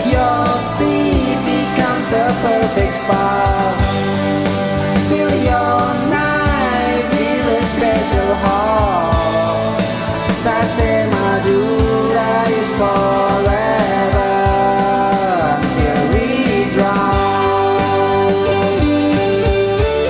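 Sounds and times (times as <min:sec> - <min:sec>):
pop-rock song: 0:00.0 - 0:20.0.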